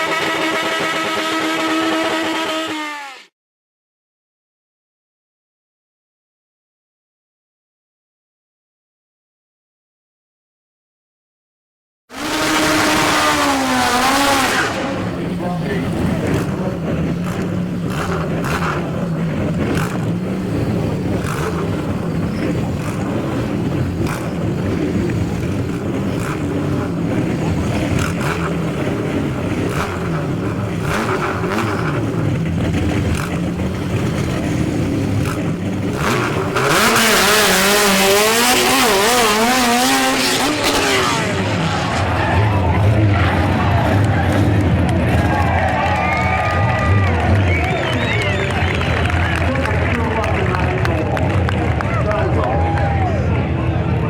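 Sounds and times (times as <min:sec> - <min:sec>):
drag car engine revving: 0:00.0 - 0:03.3, 0:12.1 - 0:54.0.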